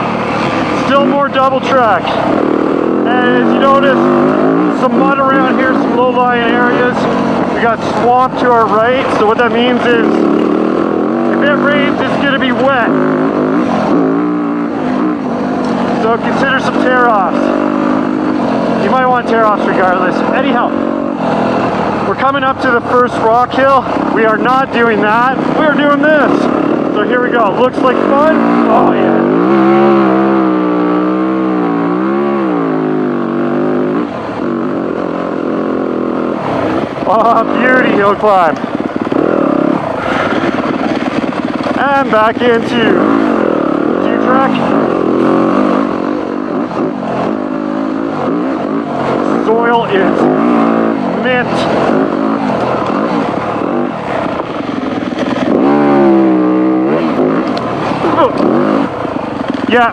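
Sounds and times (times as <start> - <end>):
dirt bike engine under throttle: 0.0 - 59.9.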